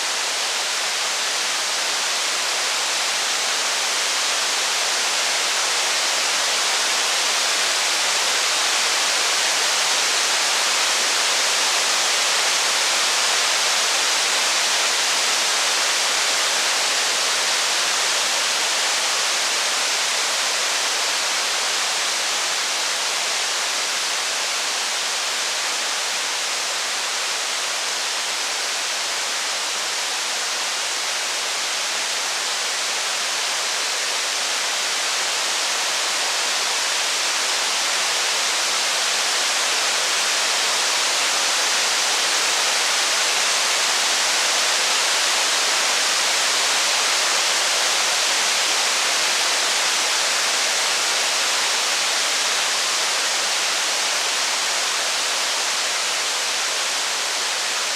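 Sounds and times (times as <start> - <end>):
heavy rain hiss: 0.0 - 57.9.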